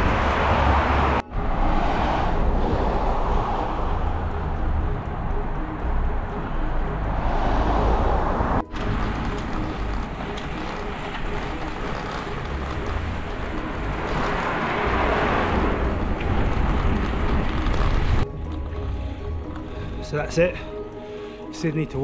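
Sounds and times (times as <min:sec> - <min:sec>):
road rumble: 0:00.0 - 0:22.0.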